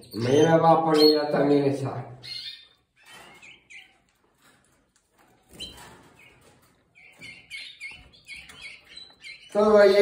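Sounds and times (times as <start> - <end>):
canaries chirping: 0.0 - 10.0.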